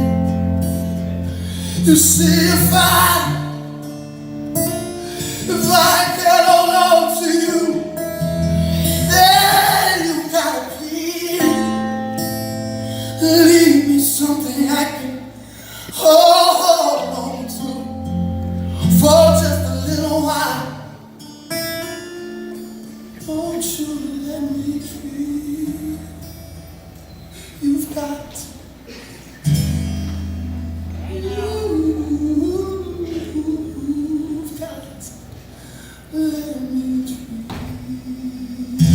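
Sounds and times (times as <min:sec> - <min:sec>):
man singing: 0:00.0 - 0:04.0, 0:04.6 - 0:21.1, 0:23.1 - 0:26.2, 0:27.6 - 0:28.6, 0:31.0 - 0:35.2, 0:36.1 - 0:38.9
acoustic guitar: 0:00.0 - 0:38.9.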